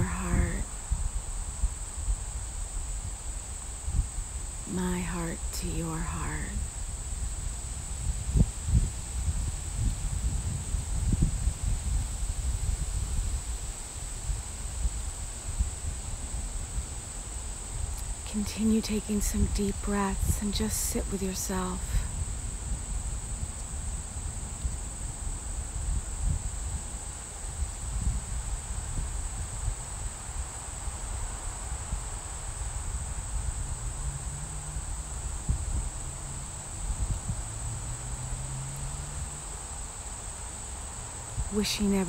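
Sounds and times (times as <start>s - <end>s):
insect chorus drone: 0.0s - 42.0s
wind rumble on microphone: 0.0s - 42.0s.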